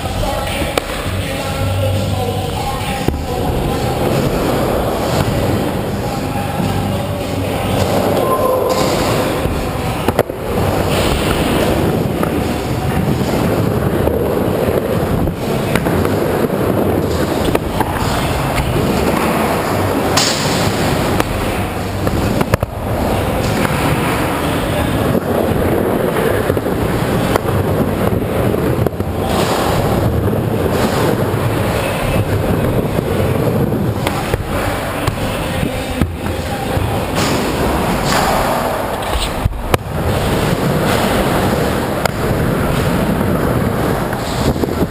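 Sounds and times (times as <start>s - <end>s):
skateboard wheels rumbling: 0.0s - 44.9s.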